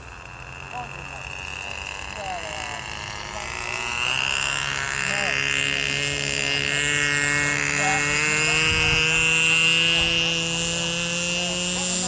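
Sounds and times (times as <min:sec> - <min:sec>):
model aircraft motor buzzing: 0:00.0 - 0:12.0.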